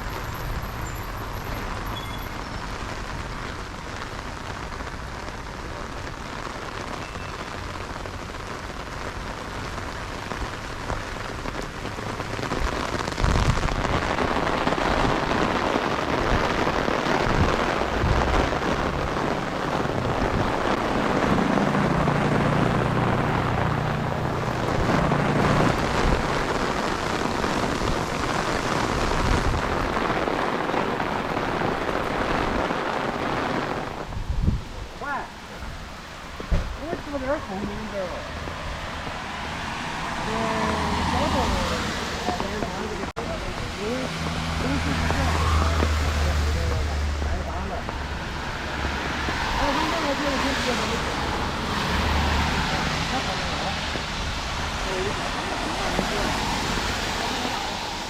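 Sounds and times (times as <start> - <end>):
heavy rain on street: 0.0 - 58.0.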